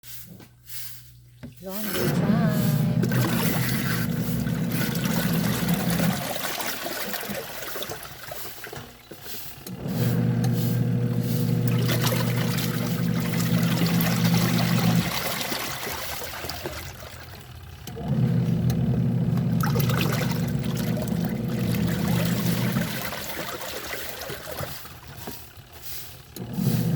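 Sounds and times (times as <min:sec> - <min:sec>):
washing machine motor humming: 0:01.6 - 0:26.9
water sloshing and trickling: 0:01.7 - 0:09.7, 0:11.5 - 0:18.6, 0:19.3 - 0:26.4.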